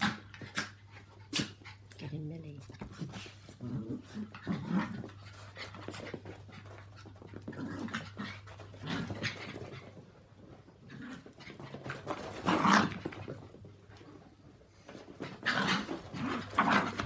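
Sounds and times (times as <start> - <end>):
small dogs playing: 0.0 - 17.0.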